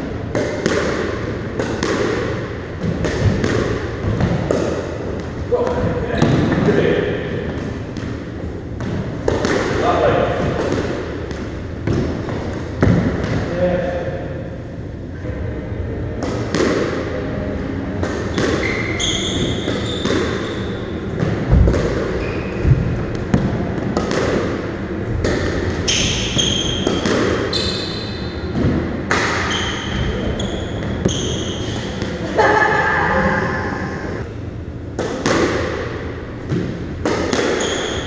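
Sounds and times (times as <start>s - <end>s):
squash ball hitting rackets and walls: 0.0s - 14.0s, 16.1s - 32.8s, 34.9s - 38.0s.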